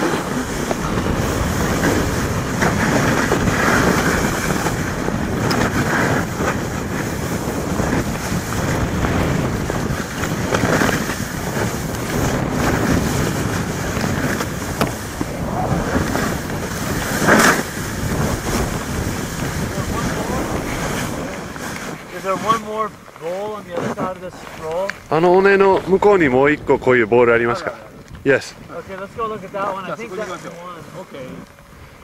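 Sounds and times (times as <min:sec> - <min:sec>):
snowboards sliding through snow: 0:00.0 - 0:32.0
wind rushing over microphone: 0:00.0 - 0:32.0.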